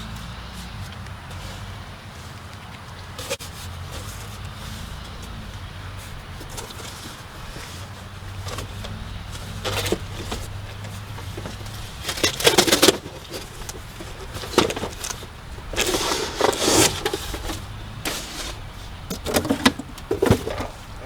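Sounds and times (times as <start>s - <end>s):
cardboard and plastic packaging rustling: 3.0s - 21.0s.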